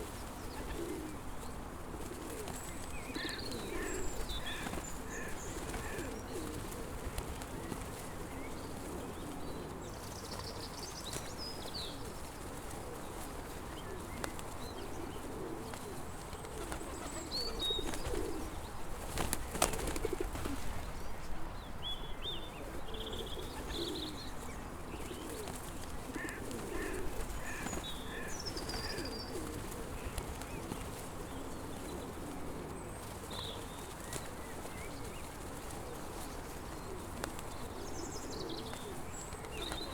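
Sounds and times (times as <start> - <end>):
pigeons cooing: 0.0 - 10.7, 11.8 - 20.8, 22.6 - 39.9
small birds chirping: 0.1 - 12.5, 13.1 - 39.9.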